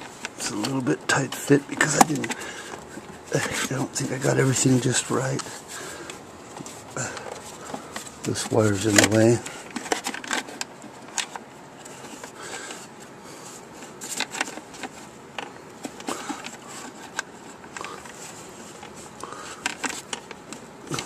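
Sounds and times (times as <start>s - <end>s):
plastic and cable rustling: 0.0s - 21.0s.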